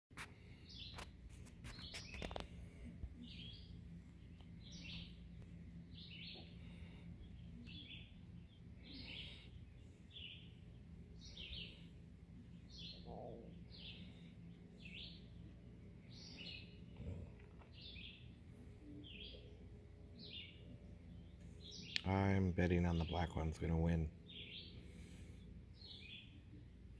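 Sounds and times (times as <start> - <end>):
low steady hum: 0.2 - 26.9
bird chirping: 0.5 - 26.9.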